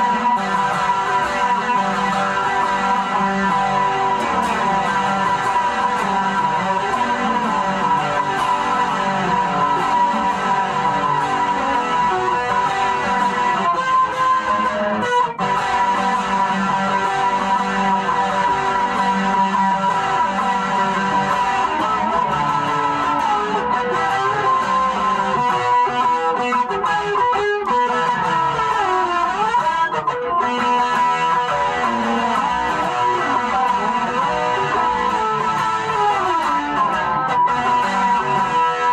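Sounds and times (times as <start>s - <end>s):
guitar picking a tune: 0.0s - 38.9s.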